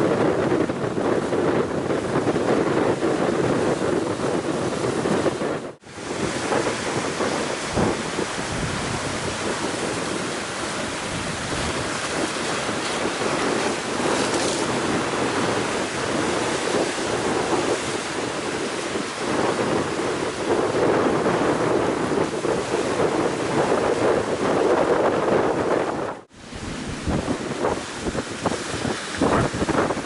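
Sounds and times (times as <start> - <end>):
waves breaking on shore: 0.0 - 30.0
wind buffeting microphone: 0.0 - 30.0.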